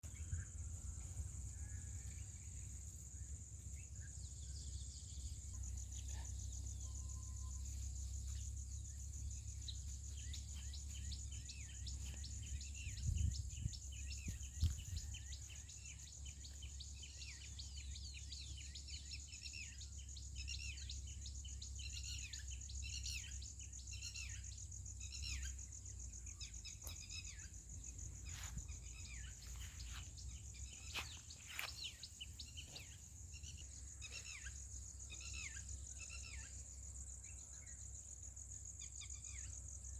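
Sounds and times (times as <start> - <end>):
small birds chirping: 0.0 - 39.9
high insect trill: 0.1 - 39.9.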